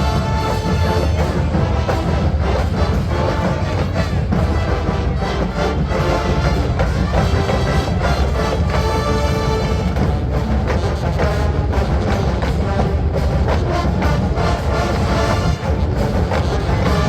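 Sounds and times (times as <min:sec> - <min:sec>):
marching band brass: 0:00.0 - 0:17.0
steady drum beat: 0:00.0 - 0:17.0.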